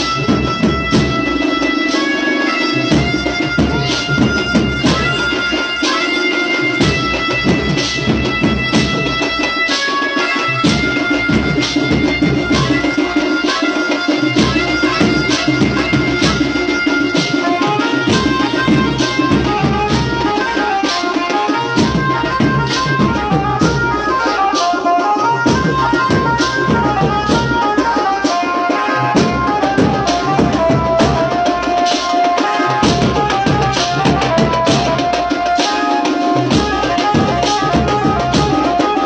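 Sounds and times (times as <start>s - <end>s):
instrumental melody: 0.0s - 39.0s
quick drum beat: 0.0s - 39.0s.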